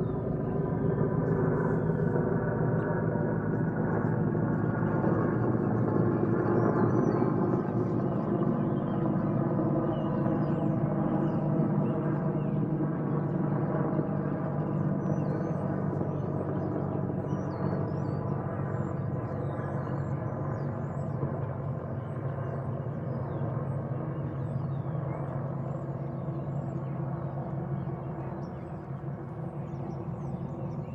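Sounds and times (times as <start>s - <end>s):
helicopter flying past: 0.0s - 30.9s.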